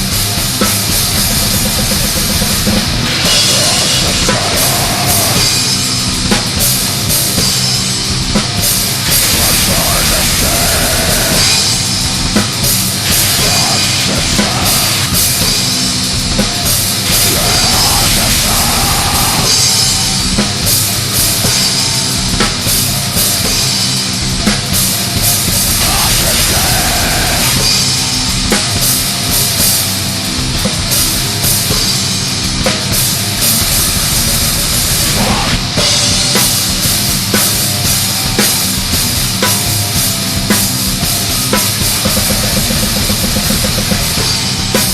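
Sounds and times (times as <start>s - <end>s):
fast drum kit: 0.0s - 44.9s
metal song: 0.0s - 44.9s.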